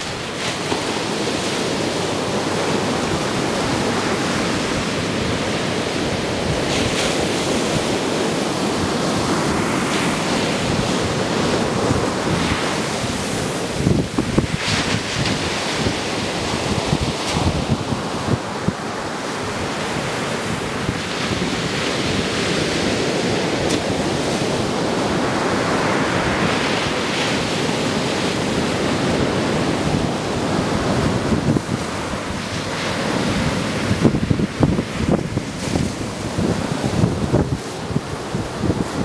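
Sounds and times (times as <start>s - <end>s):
ocean surf breaking: 0.0s - 39.0s
wind buffeting microphone: 0.0s - 39.0s.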